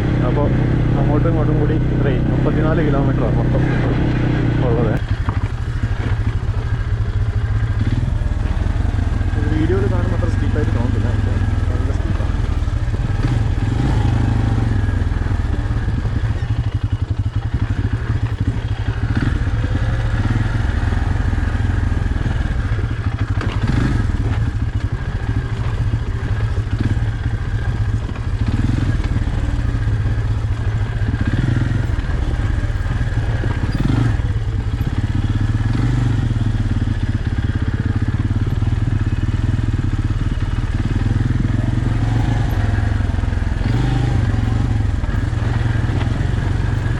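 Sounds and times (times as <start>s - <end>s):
off-road vehicle engine: 0.0s - 46.9s.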